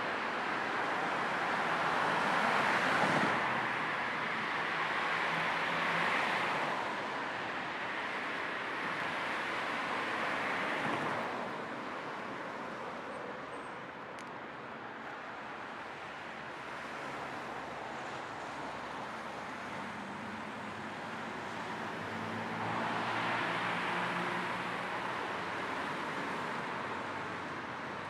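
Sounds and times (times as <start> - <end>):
car road and tyre noise: 0.0 - 28.0.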